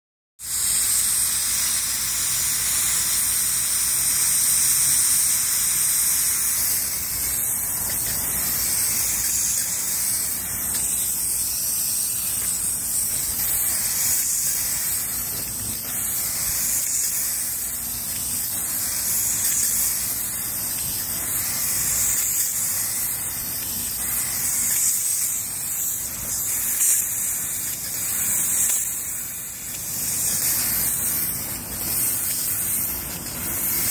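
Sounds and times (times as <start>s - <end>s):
spray gun hissing: 0.4s - 33.9s.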